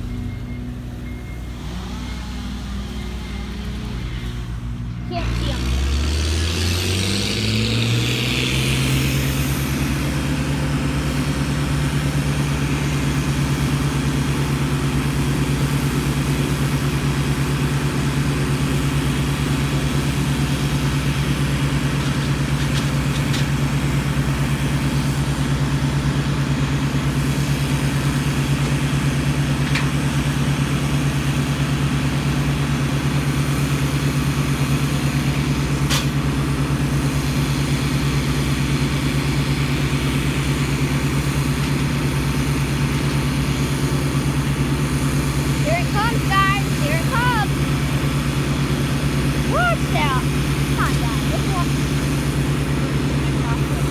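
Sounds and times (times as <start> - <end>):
heavy engine droning: 0.0 - 53.9.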